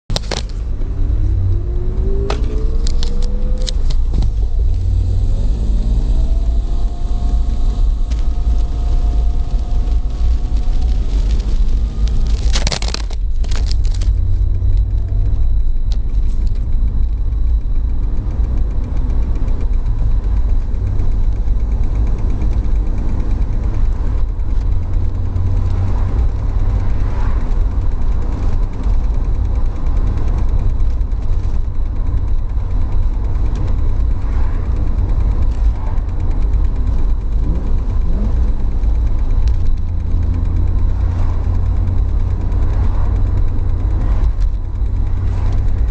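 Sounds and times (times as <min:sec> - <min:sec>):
car engine rumbling: 0:00.0 - 0:45.9
rapid even ticking: 0:00.1 - 0:45.9.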